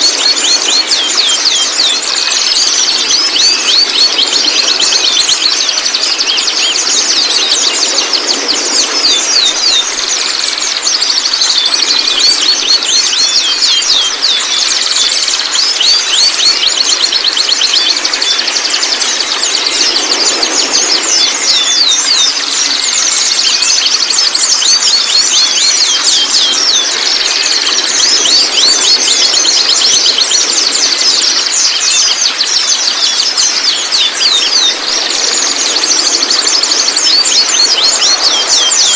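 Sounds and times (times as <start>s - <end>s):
birds chattering chirps: 0.0s - 38.9s.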